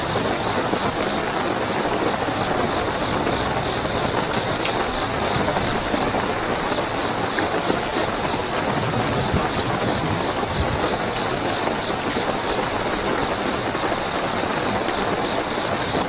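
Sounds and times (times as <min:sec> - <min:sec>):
crickets chirping: 0:00.0 - 0:16.0
heavy rain: 0:00.0 - 0:16.0.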